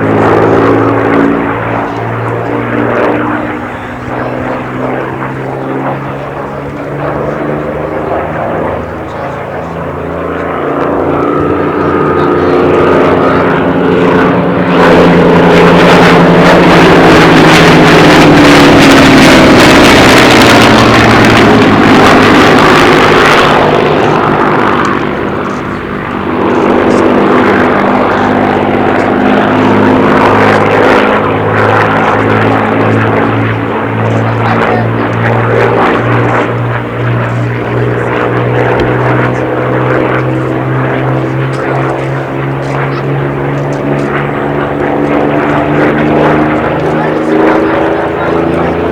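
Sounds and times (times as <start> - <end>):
propeller aircraft engine passing: 0.0 - 48.9.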